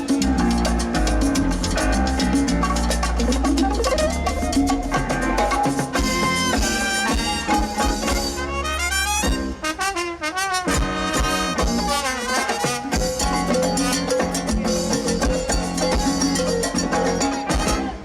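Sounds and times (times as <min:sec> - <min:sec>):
latin dance band with brass: 0:00.0 - 0:18.0.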